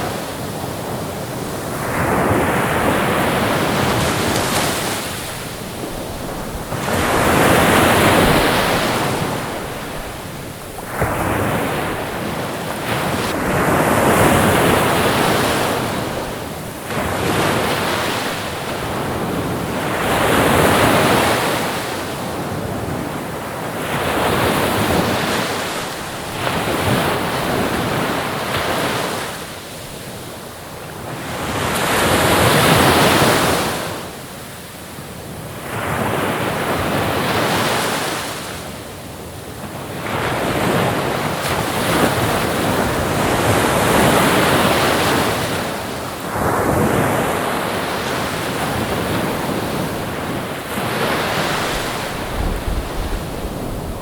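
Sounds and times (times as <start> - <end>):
ocean waves breaking in surf: 0.0 - 54.0.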